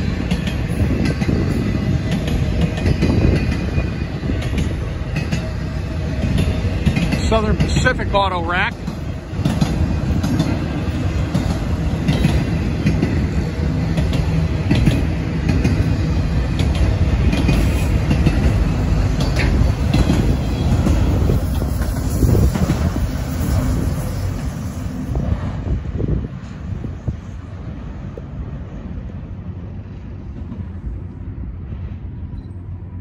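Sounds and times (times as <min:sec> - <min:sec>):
freight car wheels rumbling on track: 0:00.0 - 0:32.2.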